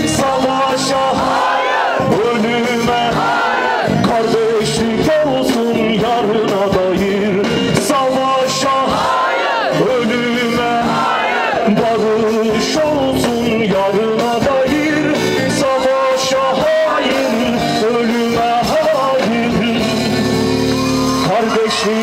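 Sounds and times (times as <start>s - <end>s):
man singing into a microphone: 0.0s - 20.5s, 21.1s - 22.0s
live band with guitar: 0.0s - 22.0s.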